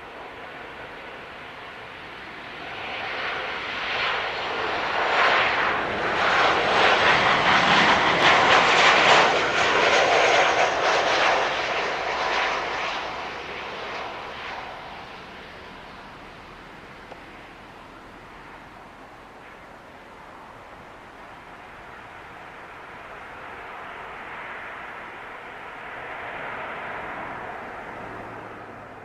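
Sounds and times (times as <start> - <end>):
airliner jet noise passing by: 0.0 - 29.0.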